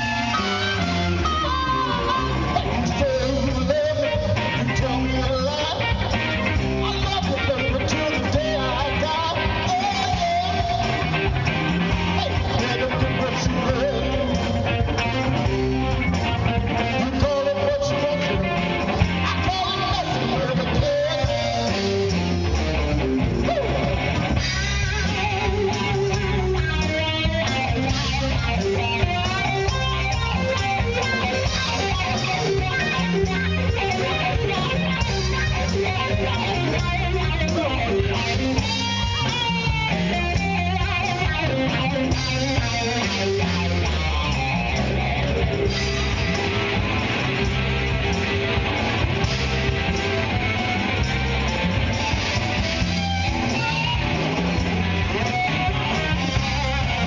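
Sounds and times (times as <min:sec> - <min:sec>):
electric guitar: 0:00.0 - 0:57.0
rock band playing live: 0:00.0 - 0:57.0.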